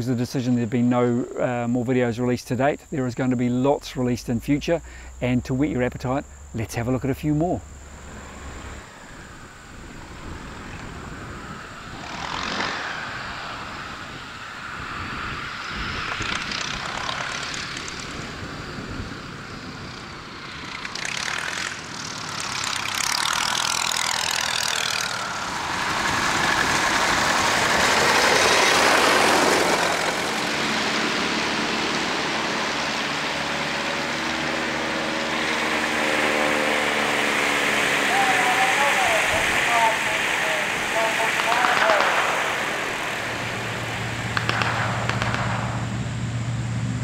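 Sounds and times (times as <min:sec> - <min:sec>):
biplane piston engines: 0:00.0 - 0:47.0
triplane engine humming: 0:00.6 - 0:47.0.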